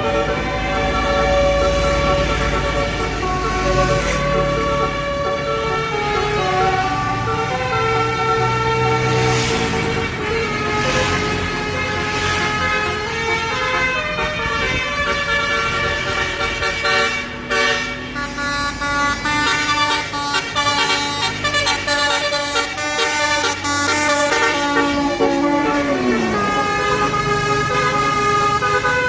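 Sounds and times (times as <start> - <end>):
bus musical air horn tune: 0.0 - 29.0.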